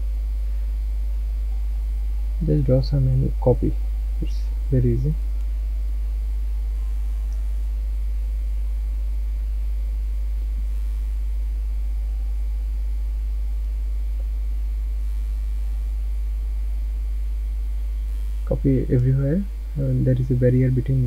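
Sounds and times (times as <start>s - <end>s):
electrical mains hum: 0.0s - 21.0s
faint steady tones: 0.0s - 21.0s.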